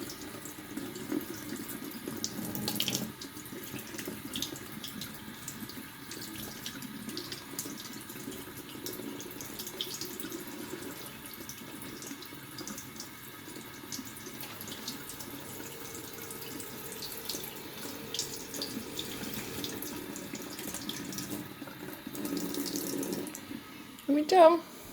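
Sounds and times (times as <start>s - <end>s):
tap water running into sink: 0.0s - 24.4s.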